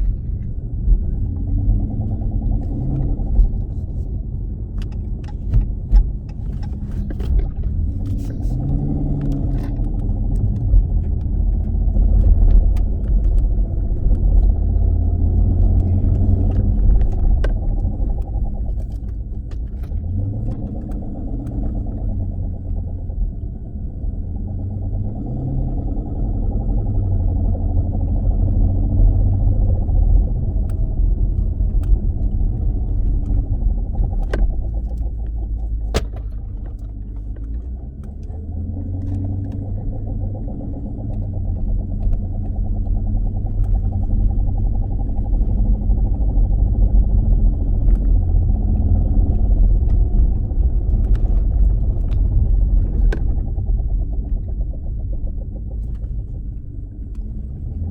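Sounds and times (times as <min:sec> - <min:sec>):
car driveline rumbling: 0:00.0 - 0:25.3, 0:27.0 - 0:57.9.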